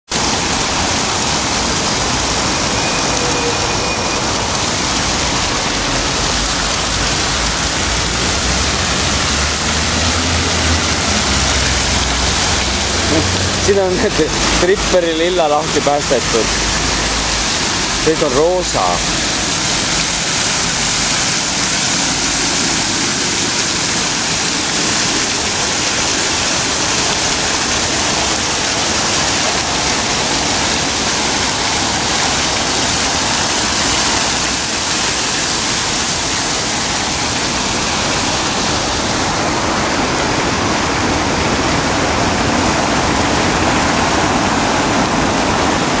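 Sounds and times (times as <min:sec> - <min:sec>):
fountain water splashing: 0:00.1 - 0:46.0.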